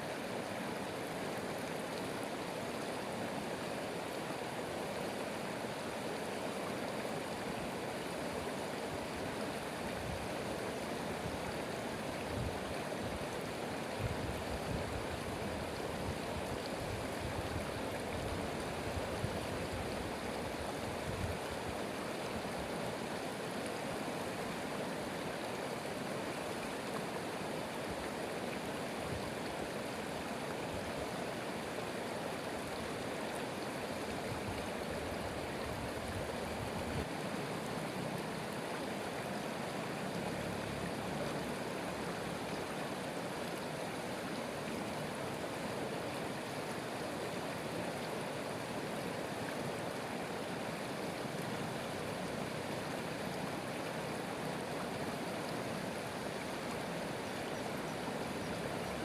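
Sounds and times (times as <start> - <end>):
running water stream: 0.0 - 59.0.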